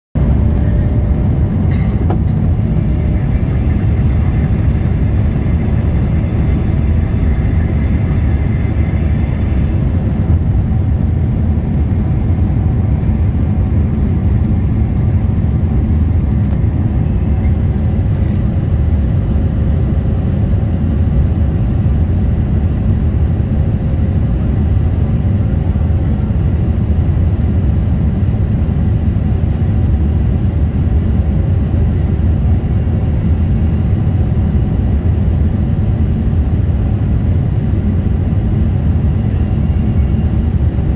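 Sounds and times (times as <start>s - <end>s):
airliner cabin engine rumble: 0.2s - 40.9s.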